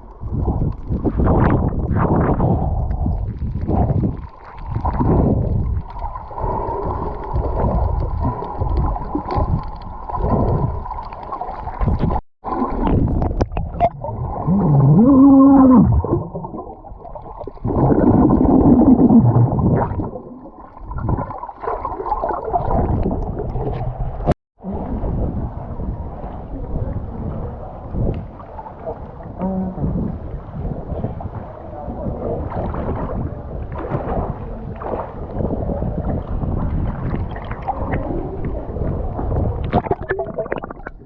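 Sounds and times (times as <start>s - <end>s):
muffled water sloshing: 0.0s - 41.0s.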